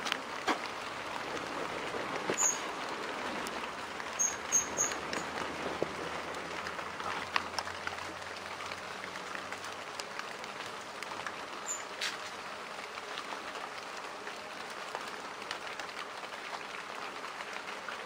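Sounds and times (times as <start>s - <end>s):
rain falling on leaves: 0.0s - 18.0s.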